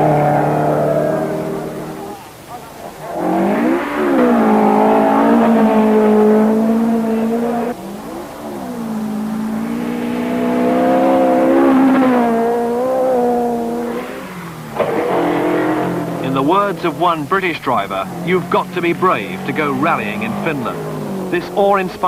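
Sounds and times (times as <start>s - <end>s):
rally car engines revving high: 0.0s - 22.0s.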